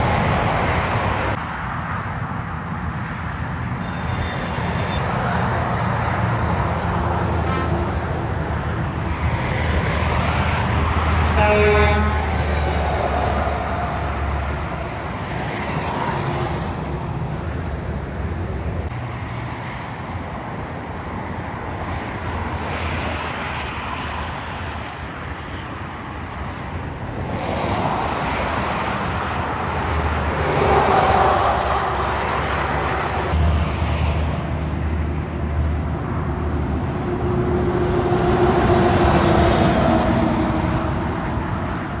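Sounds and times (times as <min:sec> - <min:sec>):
heavy trucks passing: 0:00.0 - 0:42.0.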